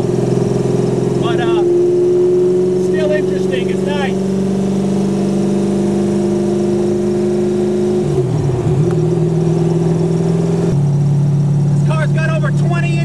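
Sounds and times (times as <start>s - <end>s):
car engine at steady cruise: 0.0s - 13.0s.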